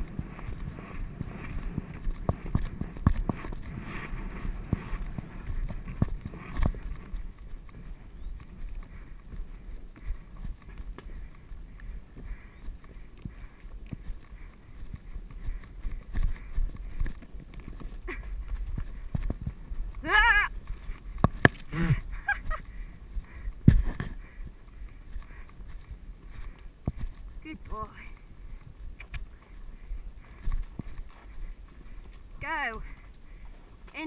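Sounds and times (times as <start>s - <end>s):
horse hoofbeats on soft earth: 0.0s - 34.0s
wind rumbling on microphone: 0.0s - 34.0s.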